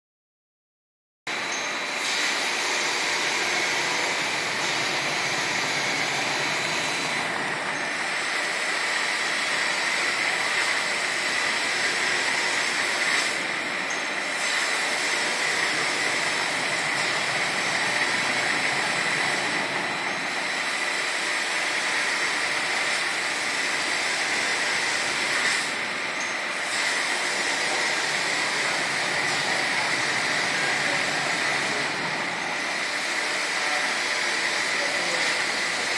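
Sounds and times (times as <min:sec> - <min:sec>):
grinding machine hissing: 0:01.3 - 0:35.9.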